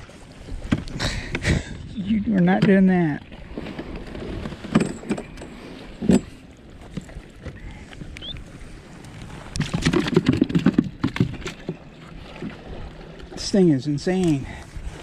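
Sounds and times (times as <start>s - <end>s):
knocking and rattling on a kayak: 0.1s - 15.0s.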